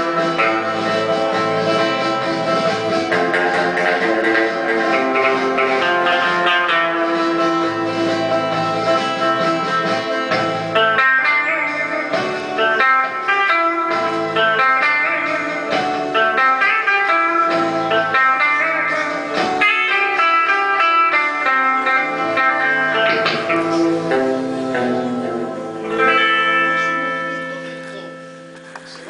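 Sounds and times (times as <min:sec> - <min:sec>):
electric guitar notes sliding: 0:00.0 - 0:29.0.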